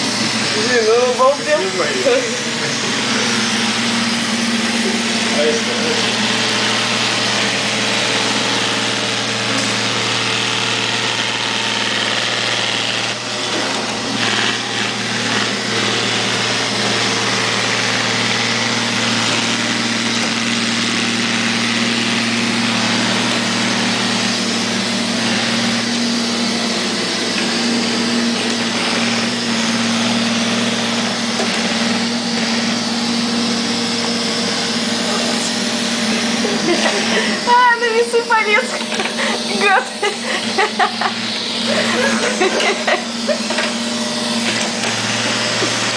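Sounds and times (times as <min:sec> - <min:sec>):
robot vacuum cleaner humming: 0:00.0 - 0:45.9.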